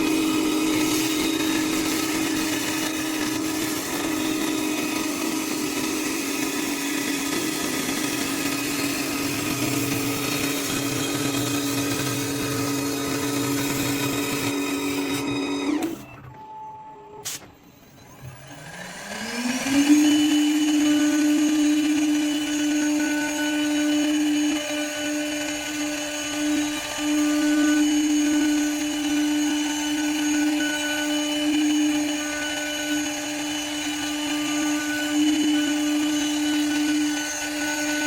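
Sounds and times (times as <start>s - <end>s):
lathe cutting wood: 0.0s - 16.0s, 18.2s - 38.0s
wood lathe motor whine: 0.0s - 16.2s, 17.8s - 38.0s.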